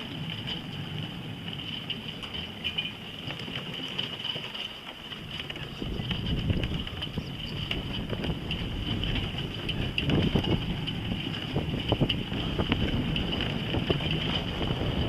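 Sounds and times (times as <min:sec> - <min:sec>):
wind buffeting microphone: 0:00.0 - 0:04.2, 0:05.0 - 0:15.0
small clicks and rattles: 0:00.0 - 0:15.0.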